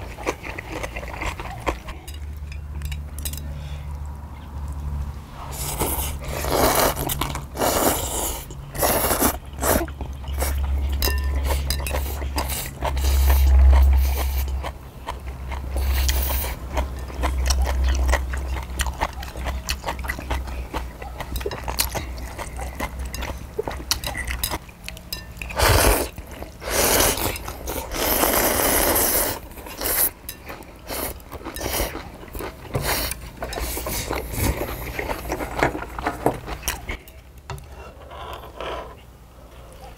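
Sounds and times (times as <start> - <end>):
people slurping and chewing noodles: 0.0 - 2.8, 5.3 - 39.9.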